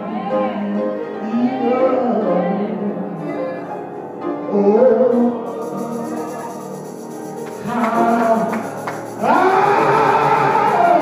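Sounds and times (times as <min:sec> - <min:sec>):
man singing a hymn: 0:00.0 - 0:03.8, 0:04.4 - 0:06.8, 0:07.6 - 0:11.0.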